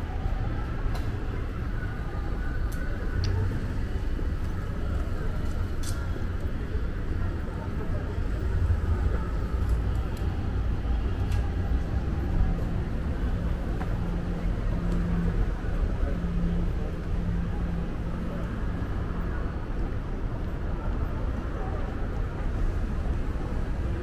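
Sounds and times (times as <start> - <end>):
murmur of voices: 0.0 - 24.0
traffic rumble: 0.0 - 24.0.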